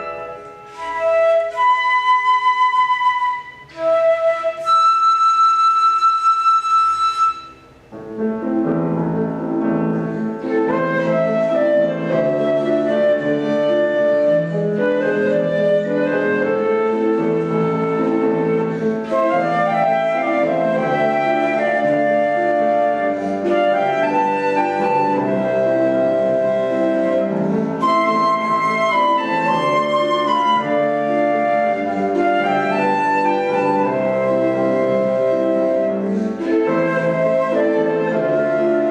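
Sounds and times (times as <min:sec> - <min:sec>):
instrumental duet: 0:00.0 - 0:38.9.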